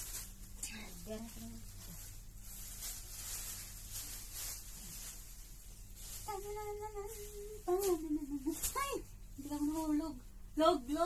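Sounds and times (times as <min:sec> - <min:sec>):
plastic sheet rustling: 0:00.0 - 0:11.0.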